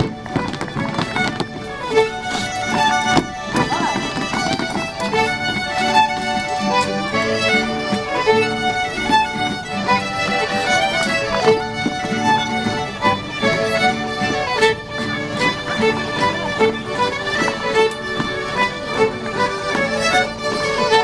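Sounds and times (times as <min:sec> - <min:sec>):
fiddle playing dance tune: 0:00.0 - 0:21.0.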